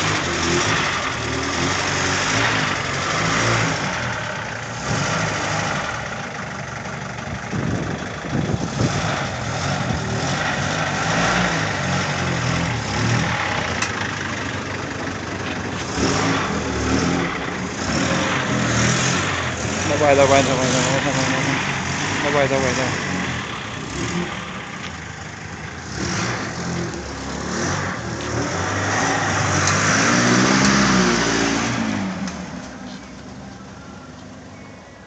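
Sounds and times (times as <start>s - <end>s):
car engine idling: 0.0s - 30.9s, 31.6s - 35.0s.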